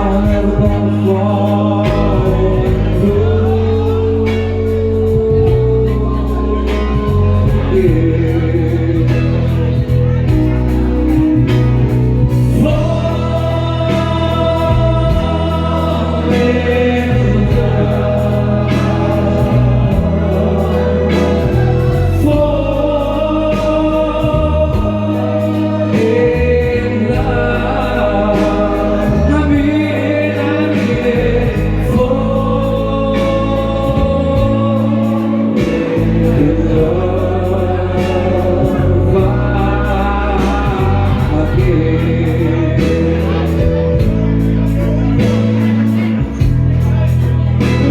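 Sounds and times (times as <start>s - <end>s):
slow song with held chords: 0.0s - 47.9s
steady bass line: 0.0s - 47.9s.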